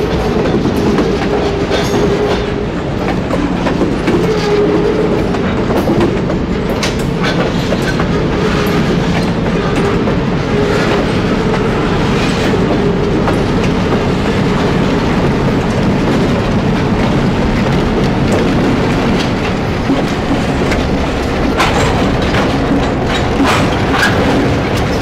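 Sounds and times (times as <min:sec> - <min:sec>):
freight train rumbling: 0:00.0 - 0:25.0
wheels clacking over rail joints: 0:00.0 - 0:25.0.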